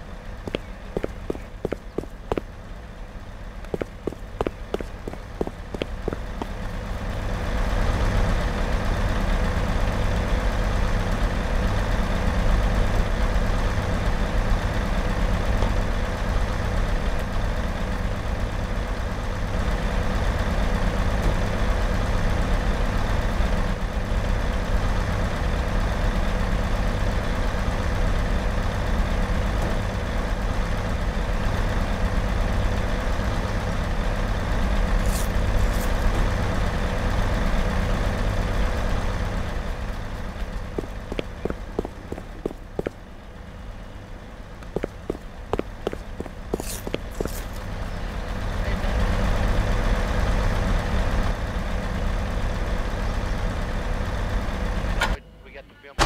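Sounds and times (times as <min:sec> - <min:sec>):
large vehicle engine rumbling: 0:00.0 - 0:56.0.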